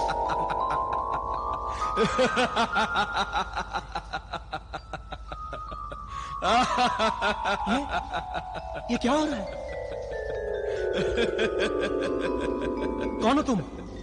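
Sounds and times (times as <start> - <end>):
echoing eerie laughter: 0.0 - 14.0
eerie fantasy background music: 0.0 - 14.0.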